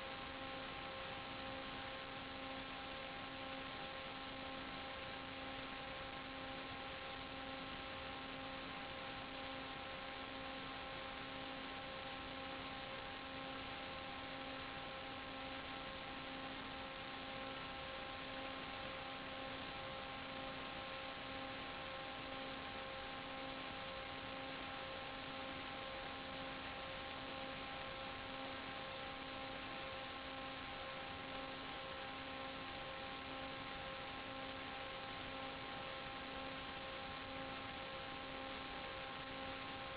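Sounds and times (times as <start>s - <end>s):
buzzing interference hum: 0.0s - 39.9s.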